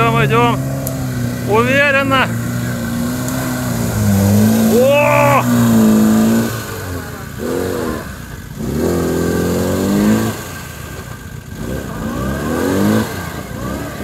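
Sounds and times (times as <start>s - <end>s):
car engine revving hard: 0.0s - 14.0s
wheels spinning in mud: 0.0s - 14.0s.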